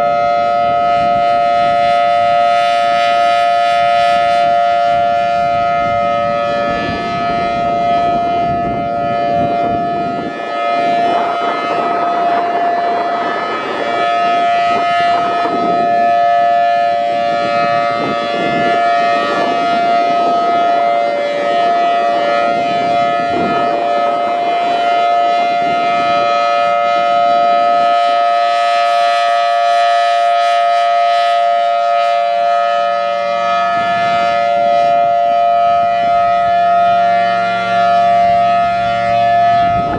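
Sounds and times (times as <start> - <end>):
warning siren steady chord: 0.0 - 39.9
wind buffeting microphone: 0.0 - 39.9.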